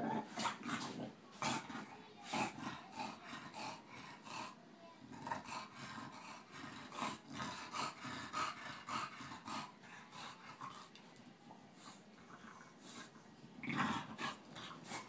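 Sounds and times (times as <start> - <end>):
dogs huffing breath: 0.0 - 4.6, 5.3 - 15.0.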